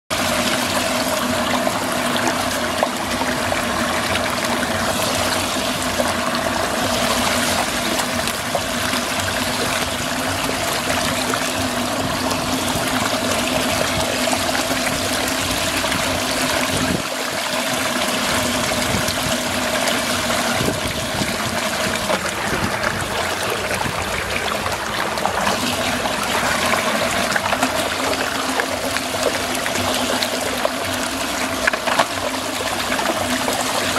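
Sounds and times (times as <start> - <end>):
water swirling down drain: 0.1 - 33.9.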